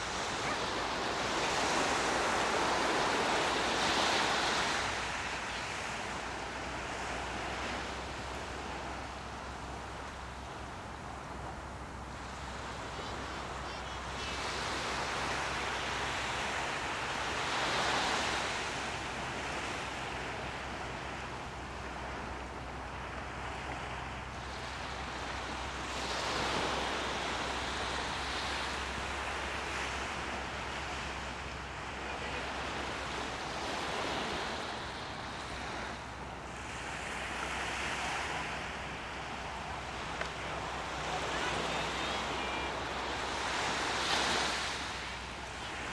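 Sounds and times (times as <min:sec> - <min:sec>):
water waves washing in: 0:00.0 - 0:45.9.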